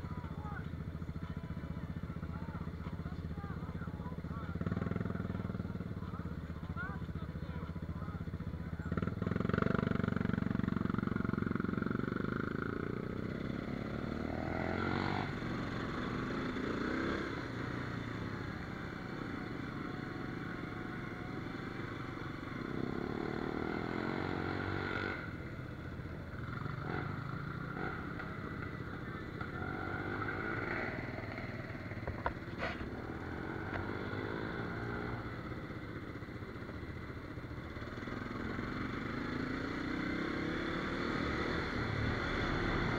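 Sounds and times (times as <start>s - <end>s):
quad bike engine running: 0.0s - 42.9s.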